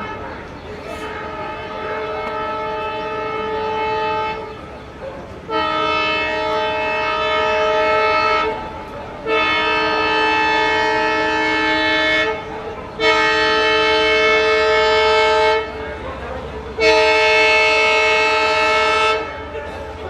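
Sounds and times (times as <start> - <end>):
locomotive air horn blasts: 0.8 - 4.7, 5.5 - 15.9, 16.8 - 19.8.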